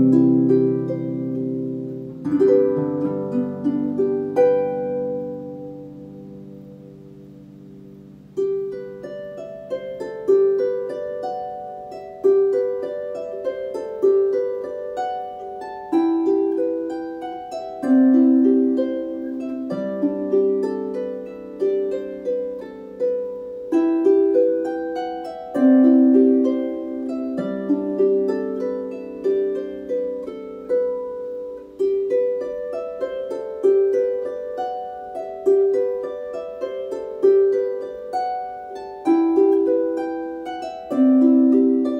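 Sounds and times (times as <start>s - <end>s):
harp playing gentle tune: 0.0s - 41.9s.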